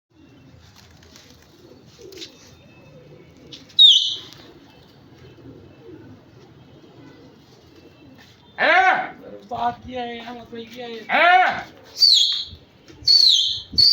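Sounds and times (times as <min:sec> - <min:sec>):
pigeons cooing: 0:00.1 - 0:09.6, 0:11.0 - 0:13.9.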